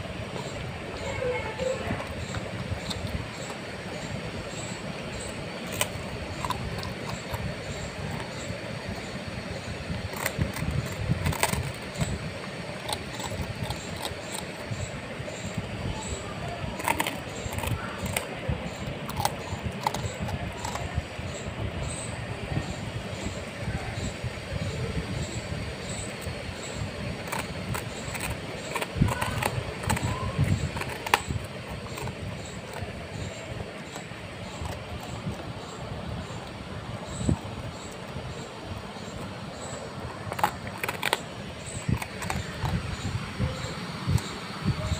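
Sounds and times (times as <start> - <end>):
puppy chewing bread: 0.0 - 44.9
steady low rumble: 0.0 - 44.9.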